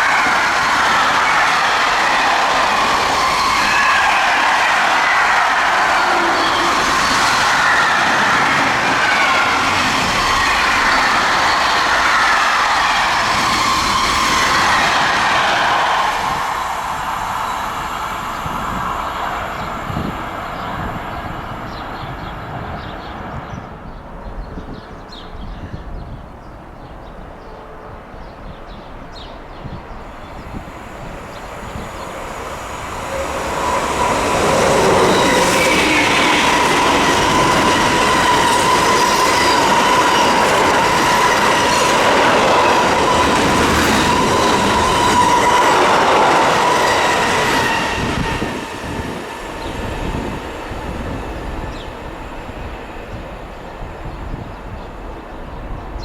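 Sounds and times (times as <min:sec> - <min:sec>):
high wheel squeal: 0:00.0 - 0:22.3, 0:30.1 - 0:53.0
train passing: 0:00.0 - 0:25.4, 0:26.0 - 0:56.0.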